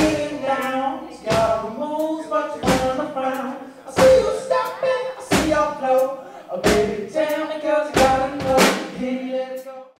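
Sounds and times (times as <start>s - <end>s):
music with drums and melody: 1.3s - 9.7s.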